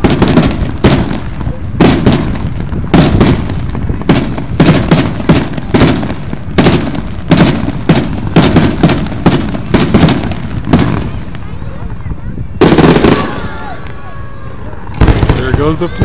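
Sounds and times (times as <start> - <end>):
fireworks bangs with low rumble: 0.0 - 16.0.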